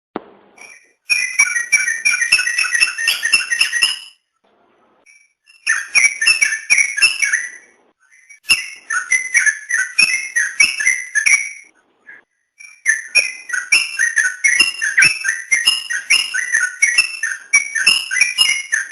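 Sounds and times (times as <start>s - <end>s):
bulbul singing whistled phrases: 0.6s - 4.1s, 5.1s - 18.9s.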